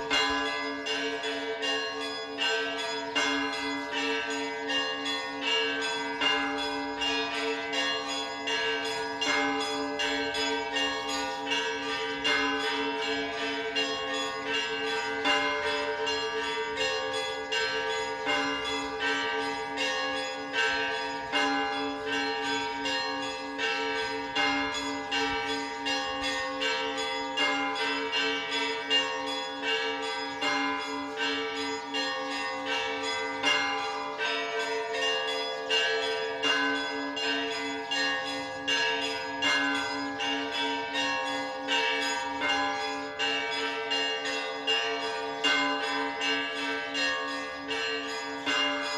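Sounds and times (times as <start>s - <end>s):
pulsing hum of large bells: 0.0s - 48.9s.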